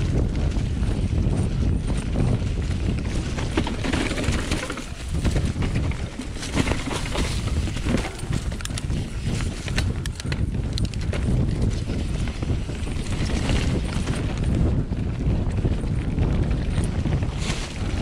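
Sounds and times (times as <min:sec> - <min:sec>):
bike clattering over bumps: 0:00.0 - 0:18.0
steady low rumble: 0:00.0 - 0:18.0.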